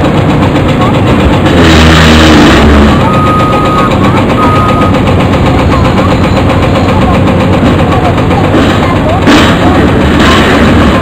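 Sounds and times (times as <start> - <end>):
clatter of concrete and steel: 0.0 - 11.0
diesel engines under load: 0.0 - 11.0.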